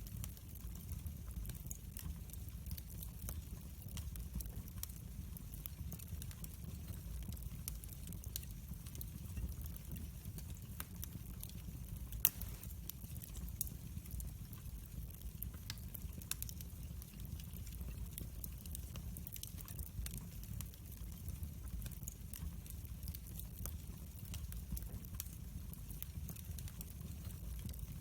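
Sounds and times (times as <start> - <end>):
low rumble of flames: 0.0 - 28.0
wood fire crackling: 0.0 - 28.0.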